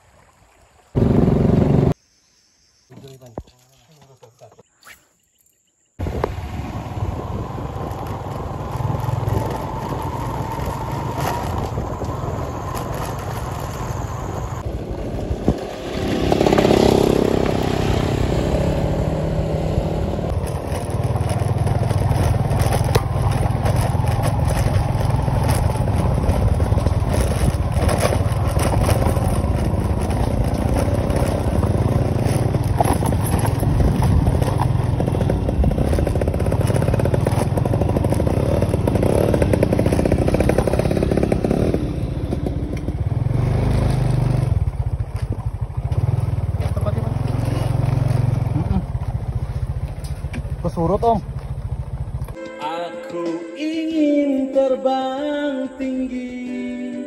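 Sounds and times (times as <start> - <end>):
motorcycle engines running: 1.0 - 2.0, 6.0 - 52.4.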